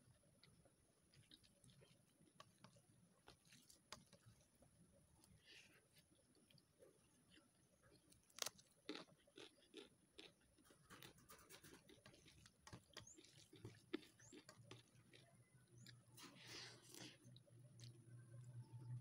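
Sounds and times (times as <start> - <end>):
chewing with mouth clicks: 0.4 - 19.0.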